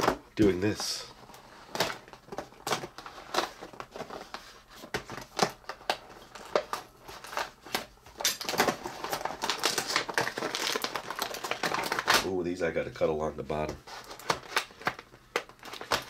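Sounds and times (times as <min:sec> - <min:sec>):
plastic packaging crinkling: 0:00.6 - 0:12.4, 0:13.8 - 0:16.0.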